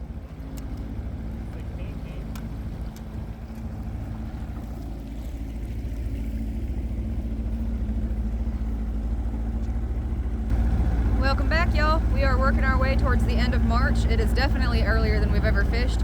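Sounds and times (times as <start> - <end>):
boat motor running: 0.0 - 16.0.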